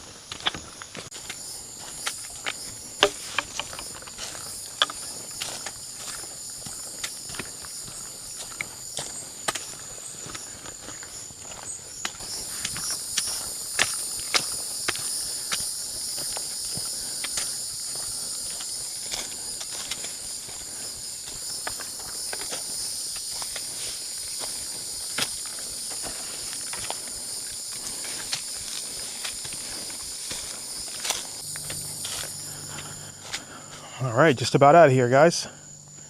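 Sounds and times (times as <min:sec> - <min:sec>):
footsteps crunching on trail: 0:00.0 - 0:36.0
insects chirping: 0:00.0 - 0:36.0.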